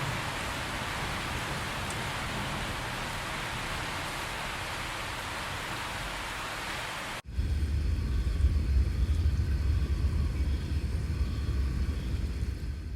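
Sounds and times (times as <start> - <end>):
thunder rumbling: 0.0 - 6.4, 7.2 - 12.9
rain hiss: 0.0 - 12.9.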